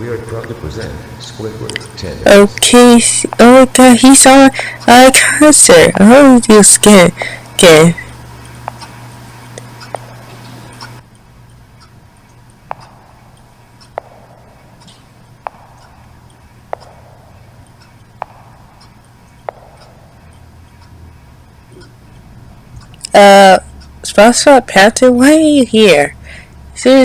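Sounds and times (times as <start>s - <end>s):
sharp ticking: 0.0s - 27.0s
steady low hum: 0.0s - 27.0s.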